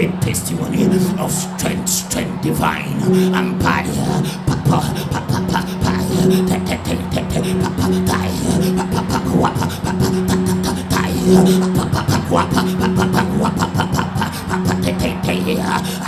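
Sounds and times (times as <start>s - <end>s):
fast ticking beat: 0.0s - 16.0s
sliding vocal sounds: 0.0s - 16.0s
low drone: 2.9s - 16.0s.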